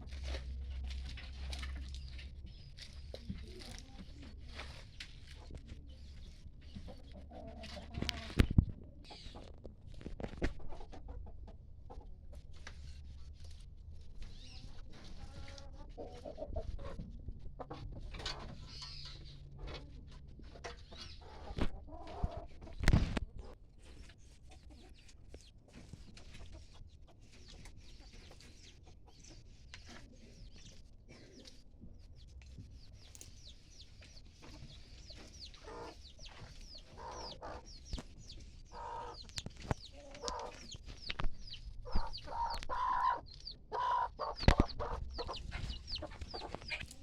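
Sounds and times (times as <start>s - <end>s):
chickens clucking: 0.0s - 47.0s.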